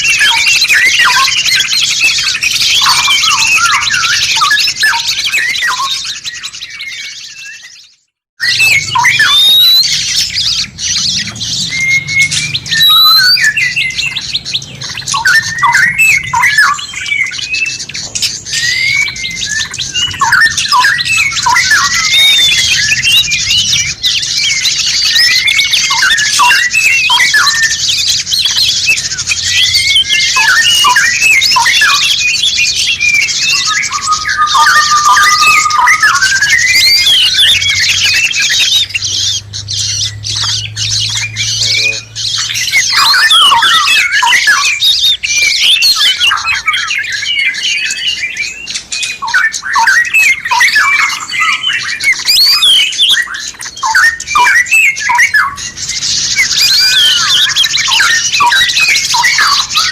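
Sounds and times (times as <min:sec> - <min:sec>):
birds chirping and squawking: 0:00.0 - 0:59.9.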